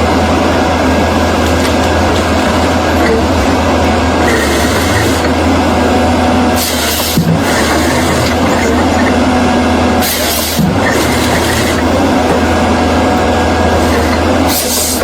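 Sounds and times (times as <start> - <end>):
diesel bulldozer engine rumble: 0.0 - 15.0.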